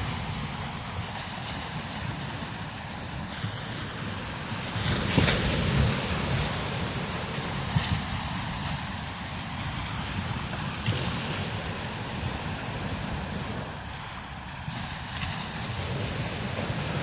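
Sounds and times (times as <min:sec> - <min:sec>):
wind buffeting microphone: 0:00.0 - 0:17.0
wind gusting: 0:00.0 - 0:17.0.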